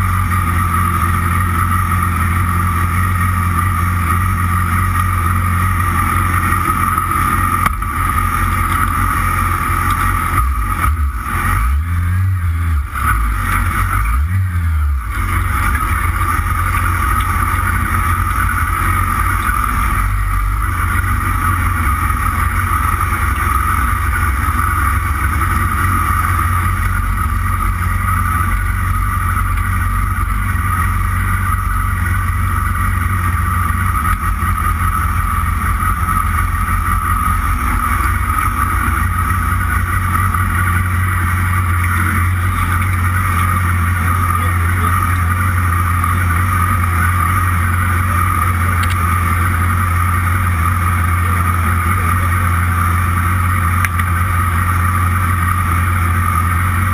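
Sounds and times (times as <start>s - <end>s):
motorcycle engine at low revs: 0.0s - 56.9s.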